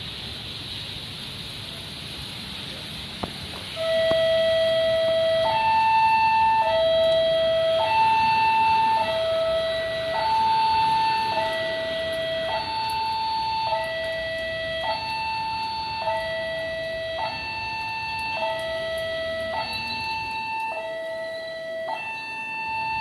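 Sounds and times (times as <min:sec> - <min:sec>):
heavy rain hiss: 0:00.0 - 0:23.0
level crossing two-tone alarm: 0:03.8 - 0:23.0.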